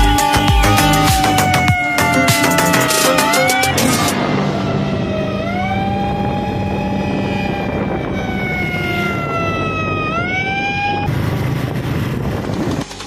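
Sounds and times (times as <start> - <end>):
siren wailing: 0.0 - 11.1
steady rushing noise: 0.4 - 8.6, 10.7 - 13.0.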